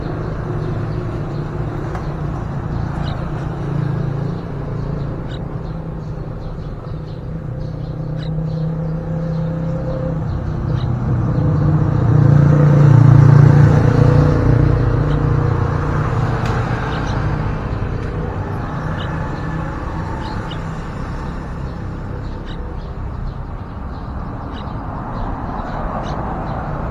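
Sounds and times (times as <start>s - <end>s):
traffic engine rumble: 0.0s - 26.9s.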